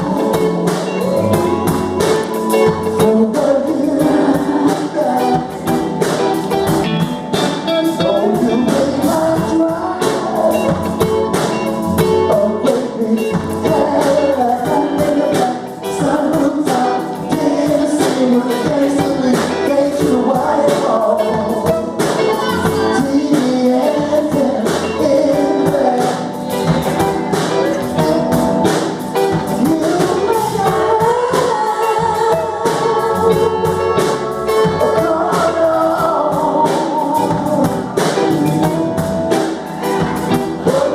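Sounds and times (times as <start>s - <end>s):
soul song with singing: 0.0s - 40.9s.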